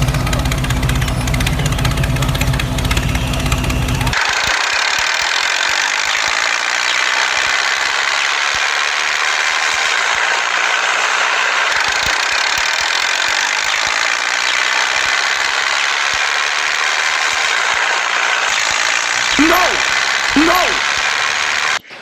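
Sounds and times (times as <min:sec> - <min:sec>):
small motor whirring: 0:03.0 - 0:21.8.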